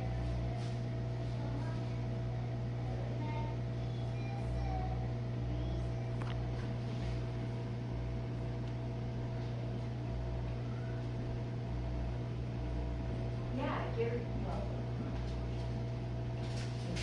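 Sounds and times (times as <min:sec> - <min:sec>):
dishwasher drain pump humming: 0:00.0 - 0:17.0.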